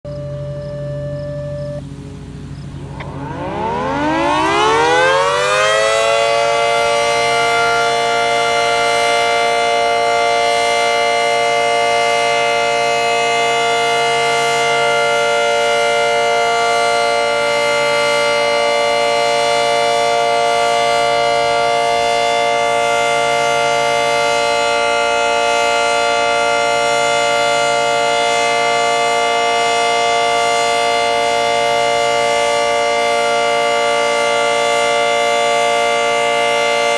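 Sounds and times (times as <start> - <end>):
two-tone warning siren: 0.0 - 36.9.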